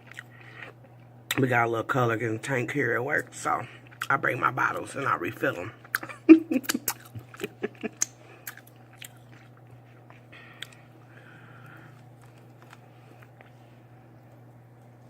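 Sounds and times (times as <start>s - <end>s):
person chewing food: 0.0s - 1.4s, 3.6s - 15.0s.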